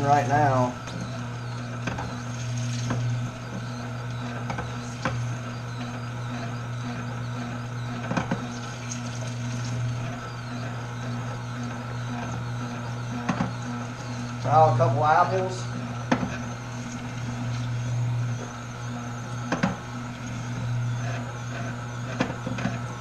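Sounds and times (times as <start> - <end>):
juicer motor hum: 0.0 - 23.0.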